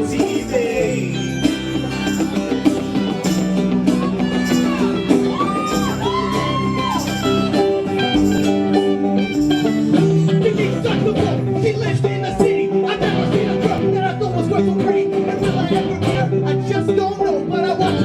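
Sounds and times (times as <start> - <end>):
drums: 0.0 - 16.4
bass: 0.0 - 18.0
lead guitar with bent notes: 0.0 - 18.0.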